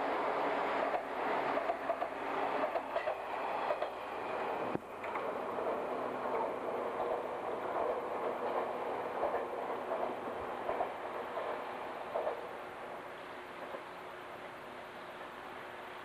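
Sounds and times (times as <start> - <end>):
wheels clacking over rail joints: 0.0 - 14.0
electric train running on rails: 0.0 - 16.0.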